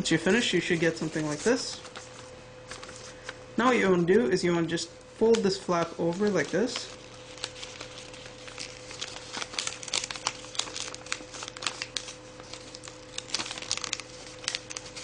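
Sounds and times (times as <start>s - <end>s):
faint steady hum: 0.0s - 15.0s
paper being folded and crinkled: 0.2s - 3.4s, 5.2s - 15.0s.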